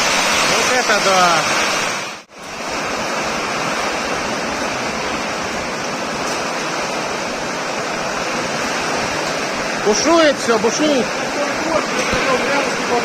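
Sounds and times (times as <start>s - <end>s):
torrential rain pouring: 0.0s - 13.0s.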